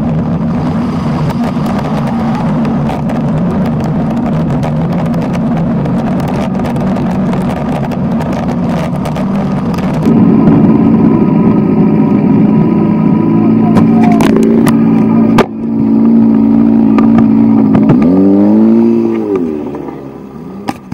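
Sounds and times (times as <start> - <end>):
buggy engine at high revs: 0.0 - 20.9
rally car engine running hard: 0.0 - 20.9
road noise: 0.0 - 20.9.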